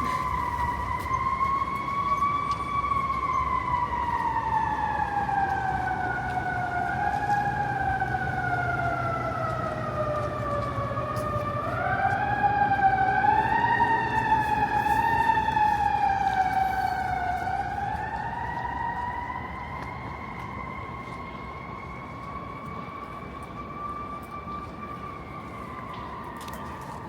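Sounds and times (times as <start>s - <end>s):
emergency siren wailing: 0.0s - 27.0s
traffic hum: 0.0s - 27.0s.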